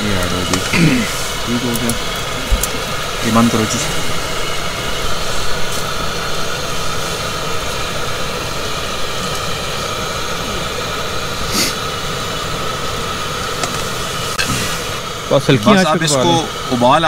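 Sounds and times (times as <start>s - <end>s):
gas stove burner hissing: 0.0s - 17.0s.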